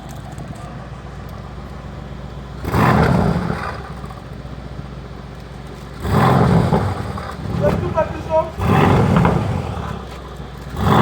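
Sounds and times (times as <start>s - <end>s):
car engine idling: 1.3s - 11.0s
engine revving through exhaust: 1.4s - 11.0s.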